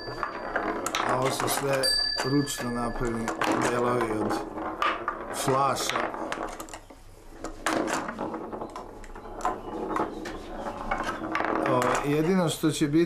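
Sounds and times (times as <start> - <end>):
pinball wooden clacks: 0.0 - 12.4.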